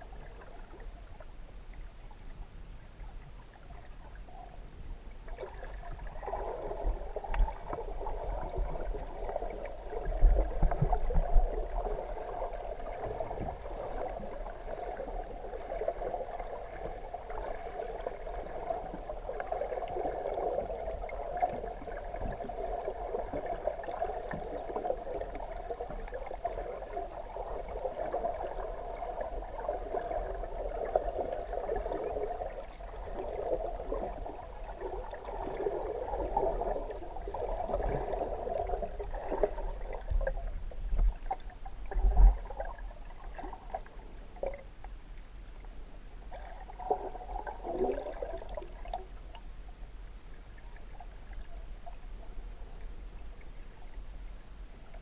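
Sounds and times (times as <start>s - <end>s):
underwater gurgling and sloshing: 0.0s - 55.0s.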